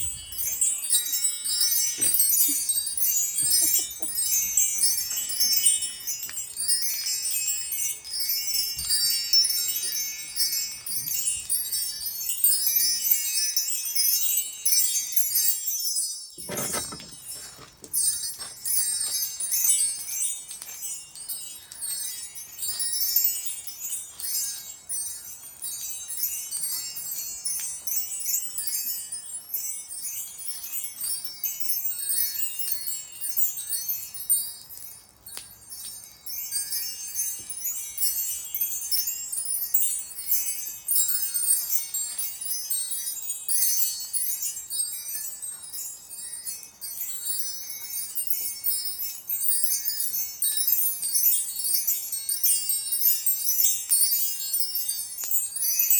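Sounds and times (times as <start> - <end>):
chimes tinkling: 0.0 - 55.9.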